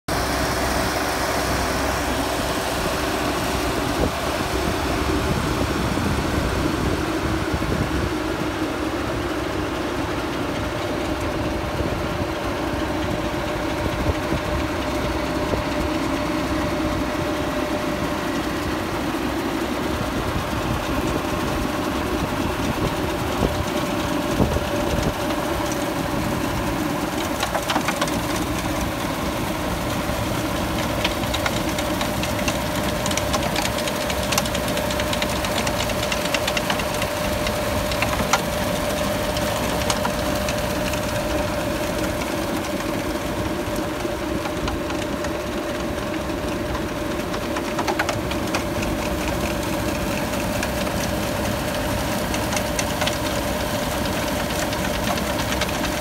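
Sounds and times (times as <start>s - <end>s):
farm machine engine running: 0.1s - 56.0s.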